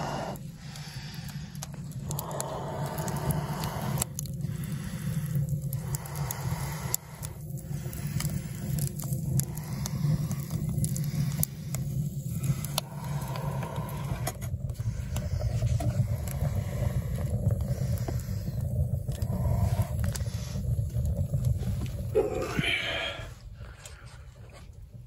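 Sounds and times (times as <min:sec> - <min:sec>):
stove low rumble: 0:00.0 - 0:25.0
wood fire crackling and popping: 0:00.0 - 0:25.0.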